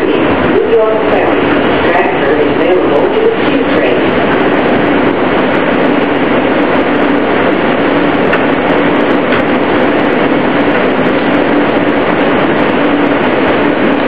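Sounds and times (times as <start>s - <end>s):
subway car wheels and motors rushing: 0.0s - 14.0s.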